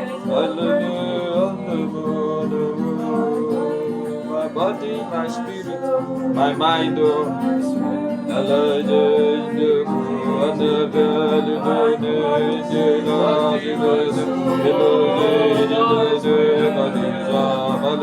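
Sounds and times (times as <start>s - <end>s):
guitar melodic runs: 0.0s - 18.0s.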